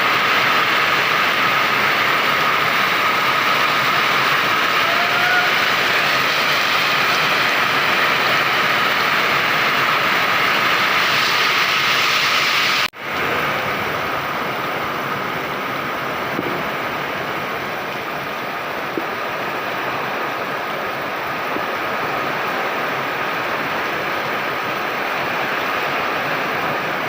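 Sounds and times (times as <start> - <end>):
heavy rain pouring: 0.0 - 27.0
strong wind: 0.0 - 27.0.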